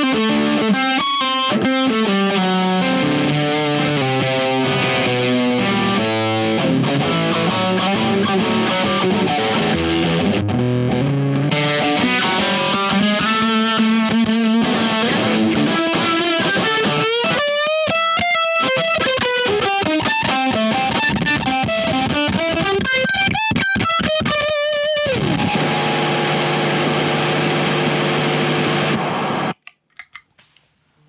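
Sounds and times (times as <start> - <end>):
distorted electric guitar: 0.0 - 29.6.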